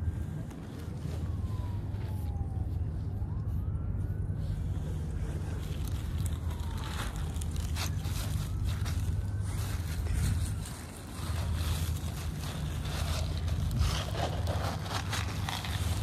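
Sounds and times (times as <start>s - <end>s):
faint siren wailing: 0.0s - 16.0s
wind rumble on microphone: 0.0s - 16.0s.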